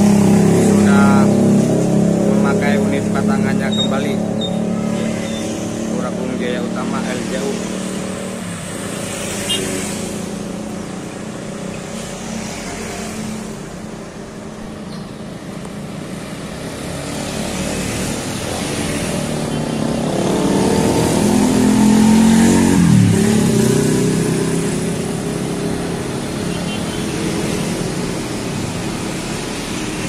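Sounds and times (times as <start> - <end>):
engine revving: 0.0 - 11.2, 16.1 - 30.0
road traffic engines: 0.0 - 30.0.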